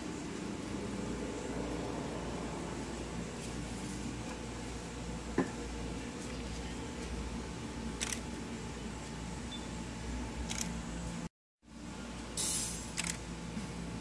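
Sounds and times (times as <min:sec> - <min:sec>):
room hum: 0:00.0 - 0:14.0.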